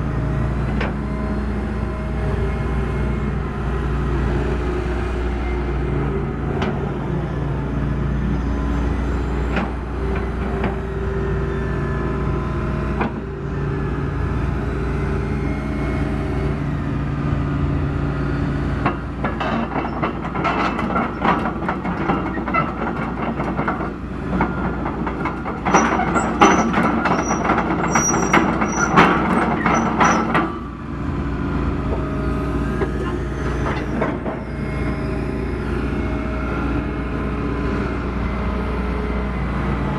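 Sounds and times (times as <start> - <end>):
metal clanking and squealing: 0.0 - 16.8, 17.6 - 39.9
excavator diesel engine running: 0.0 - 39.9.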